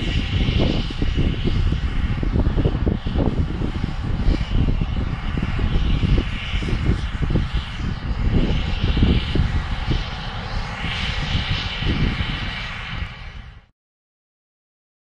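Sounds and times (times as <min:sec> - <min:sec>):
rushing of air: 0:00.0 - 0:13.7
uneven low rumble: 0:00.0 - 0:13.7.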